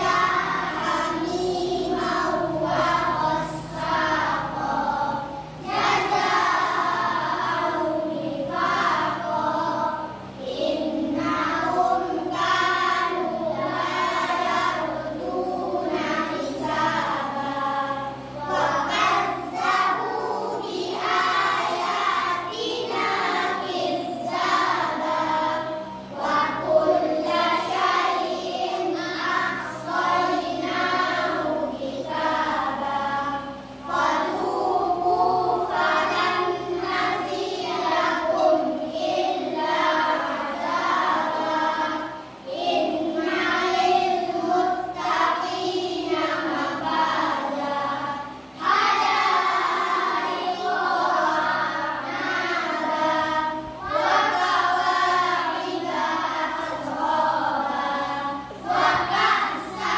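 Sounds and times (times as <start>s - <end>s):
children chanting in unison: 0.0s - 59.9s.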